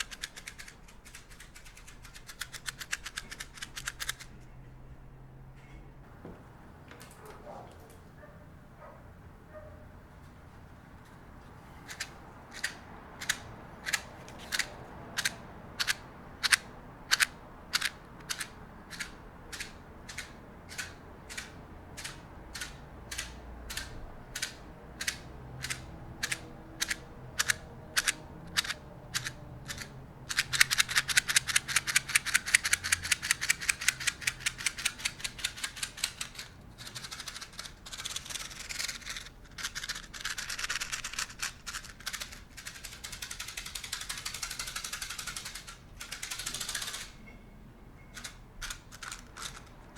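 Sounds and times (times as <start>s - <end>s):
sharp clicks: 0.0s - 4.3s, 11.9s - 47.2s, 48.2s - 49.8s.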